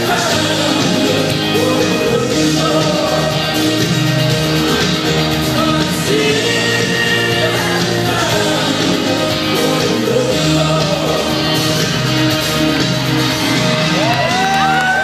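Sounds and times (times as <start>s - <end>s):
pop-rock song with vocals: 0.0s - 15.0s.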